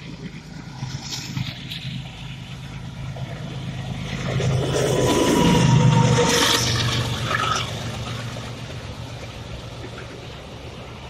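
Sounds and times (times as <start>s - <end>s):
freight train passing: 0.0s - 11.0s.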